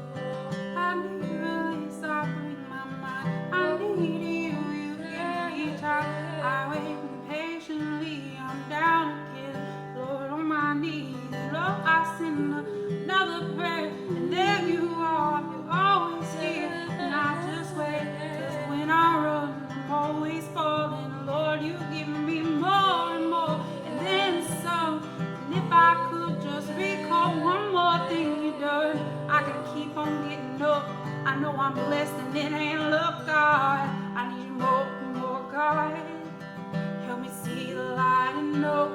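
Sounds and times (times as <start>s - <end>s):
acoustic guitar playing: 0.0s - 38.9s.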